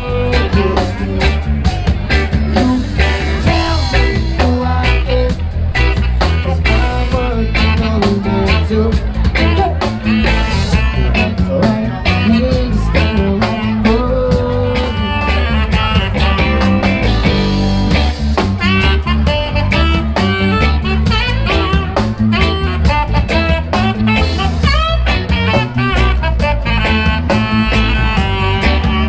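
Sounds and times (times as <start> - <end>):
live reggae band playing: 0.0 - 29.0.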